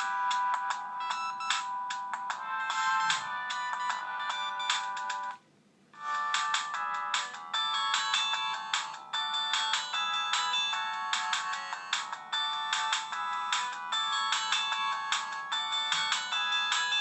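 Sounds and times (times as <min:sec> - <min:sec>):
polyphonic phone ringtone melody: 0:00.0 - 0:05.4, 0:06.0 - 0:17.0.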